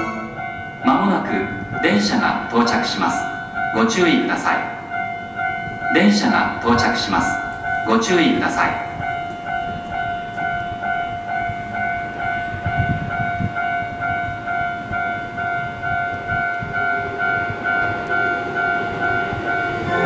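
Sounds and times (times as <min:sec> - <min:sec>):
level-crossing warning bell: 0:00.0 - 0:20.0
low rumble of train: 0:00.0 - 0:20.0.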